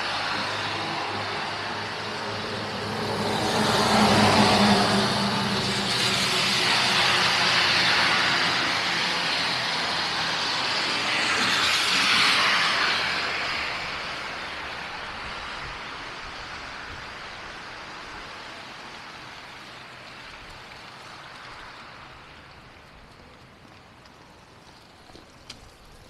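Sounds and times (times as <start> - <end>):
road vehicles passing: 0.0 - 26.0.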